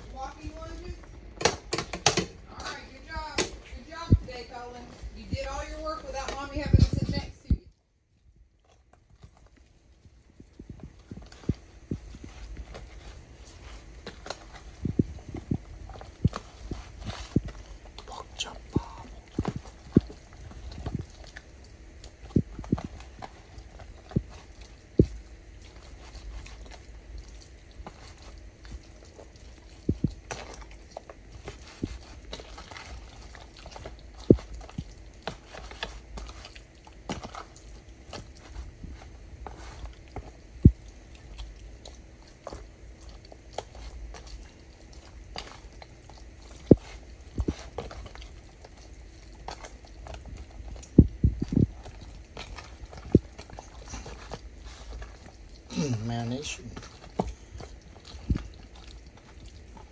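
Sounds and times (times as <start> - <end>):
raw meat squelching by hand: 8.4 - 59.9.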